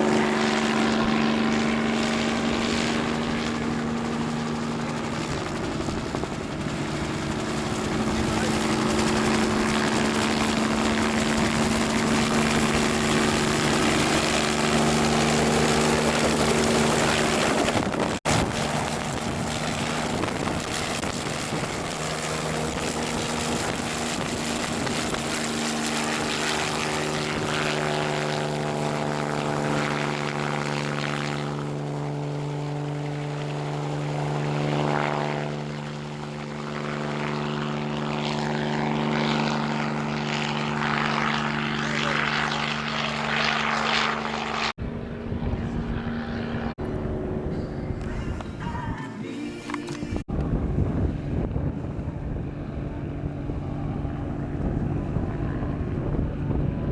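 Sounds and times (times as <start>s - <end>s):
helicopter engine and rotor: 0.0s - 48.6s, 49.9s - 56.9s.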